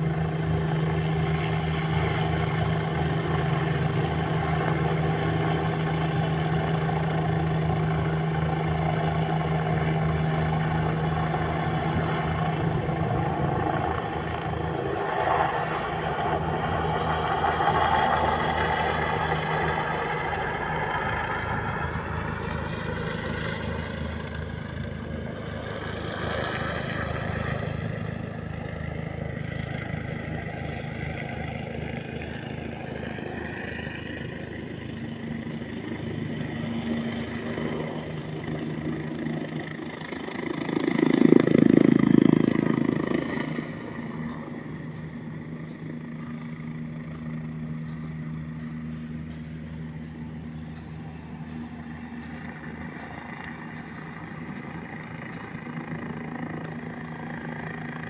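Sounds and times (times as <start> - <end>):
helicopter droning overhead: 0.0 - 58.0.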